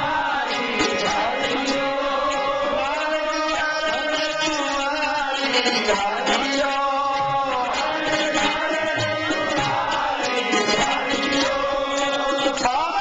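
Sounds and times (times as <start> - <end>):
harmonium: 0.0 - 13.0
men singing a hymn: 0.0 - 13.0
tabla: 0.0 - 13.0.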